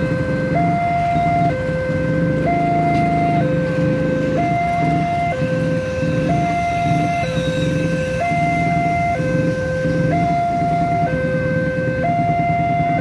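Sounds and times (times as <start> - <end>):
electronic hi-lo warning alarm: 0.0 - 13.0.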